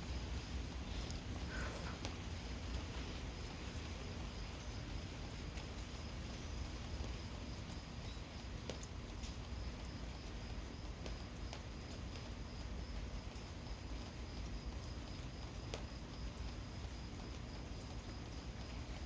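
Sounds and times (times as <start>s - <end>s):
gentle rain falling: 0.0s - 19.0s
sharp water drips: 0.0s - 19.0s.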